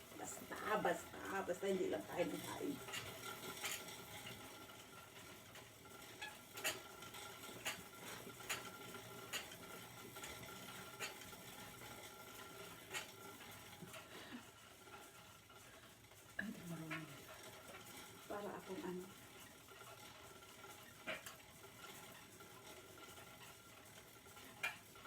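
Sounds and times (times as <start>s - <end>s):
bicycle clicks and ticks: 0.0s - 25.0s.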